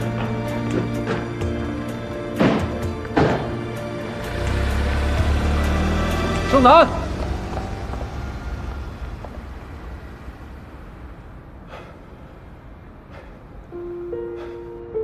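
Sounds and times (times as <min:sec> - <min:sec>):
car driving away: 0:00.0 - 0:14.8.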